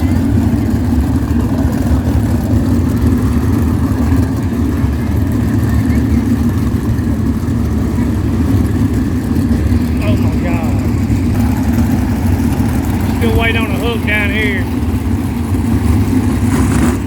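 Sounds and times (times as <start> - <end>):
engines idling: 0.0 - 17.0.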